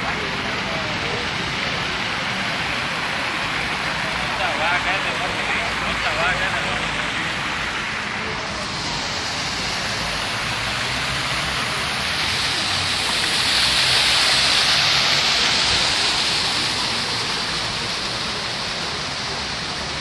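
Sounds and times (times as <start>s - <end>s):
fountain jets splashing into basin: 0.0s - 20.0s.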